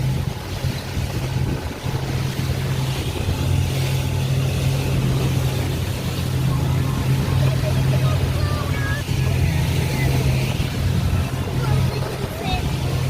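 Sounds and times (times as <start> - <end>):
motorboat engine droning: 0.0 - 13.0
water rushing: 0.0 - 13.0.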